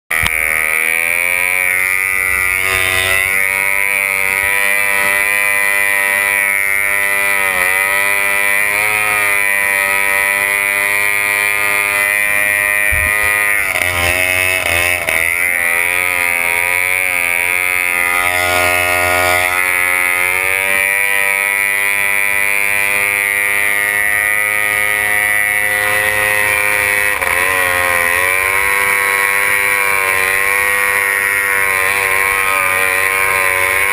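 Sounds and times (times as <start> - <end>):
outboard motor at high revs: 0.0 - 33.9.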